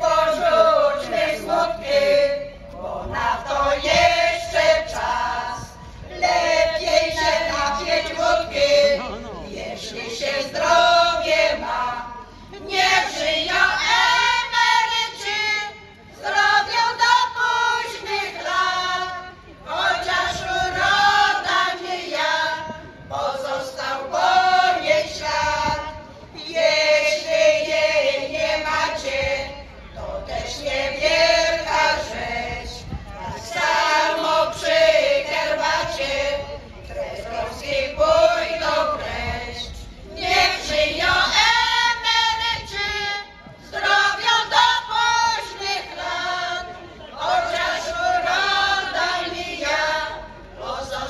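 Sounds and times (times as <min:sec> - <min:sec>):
women's choir singing through loudspeakers: 0:00.0 - 0:51.0.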